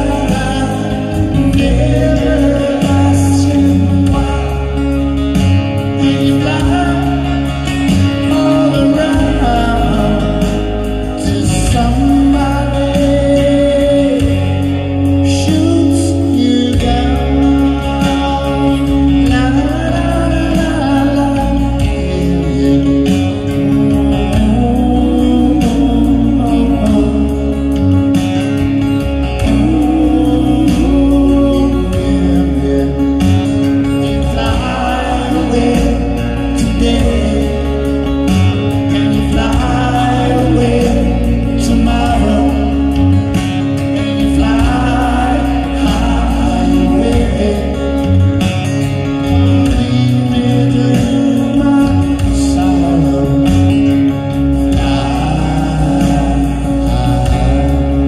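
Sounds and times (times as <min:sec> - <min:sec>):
electric bass guitar: 0:00.0 - 0:58.0
live band music: 0:00.0 - 0:58.0
person singing: 0:00.0 - 0:58.0.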